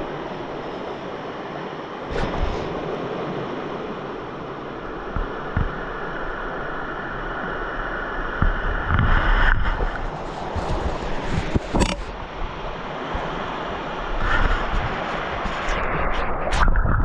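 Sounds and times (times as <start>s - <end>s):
wind buffeting microphone: 0.0s - 7.6s, 8.3s - 17.0s
stream rushing: 0.0s - 16.7s.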